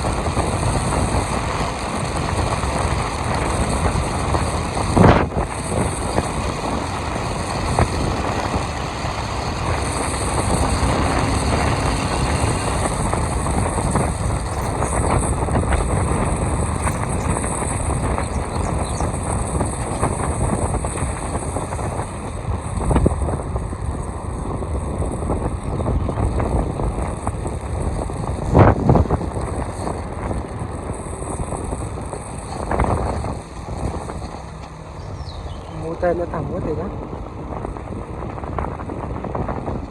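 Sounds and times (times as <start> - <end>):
motorcycle engine and road noise: 0.0 - 39.9
wind rush on microphone: 0.0 - 39.9.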